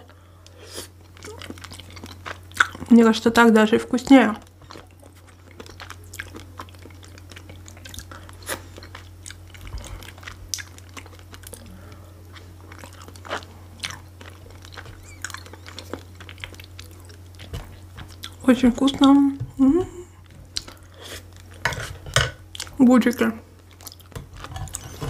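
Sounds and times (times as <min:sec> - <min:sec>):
steady low hum: 0:00.0 - 0:25.0
mouth chewing salad: 0:00.4 - 0:03.1, 0:04.1 - 0:22.8, 0:23.6 - 0:25.0.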